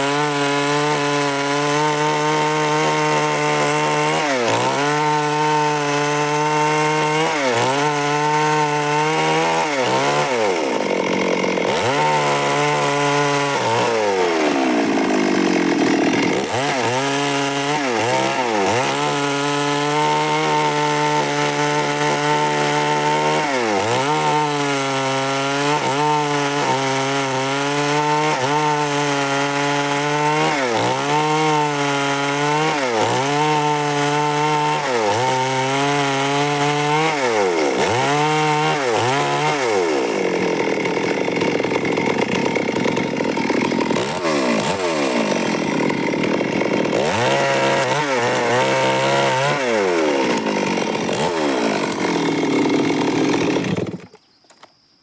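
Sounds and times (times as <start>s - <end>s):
chainsaw sawing wood: 0.0s - 54.7s.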